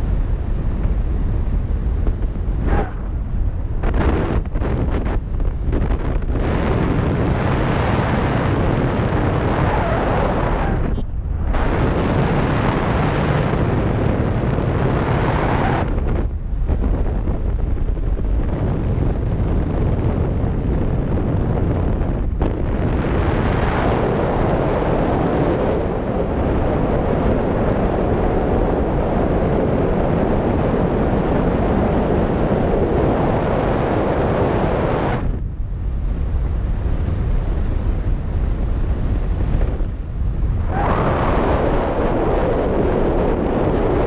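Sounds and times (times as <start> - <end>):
wind rushing on microphone: 0.0 - 44.0.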